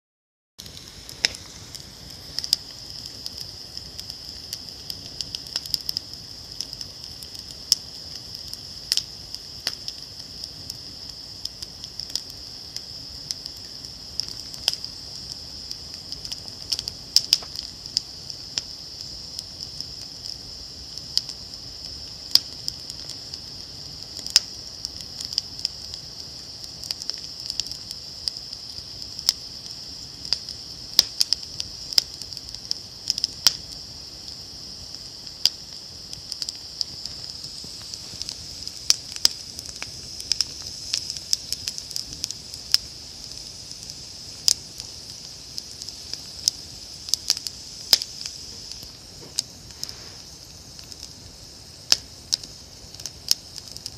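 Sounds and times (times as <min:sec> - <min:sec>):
fire hissing: 0:00.6 - 0:53.9
wood fire crackling and popping: 0:00.6 - 0:53.9.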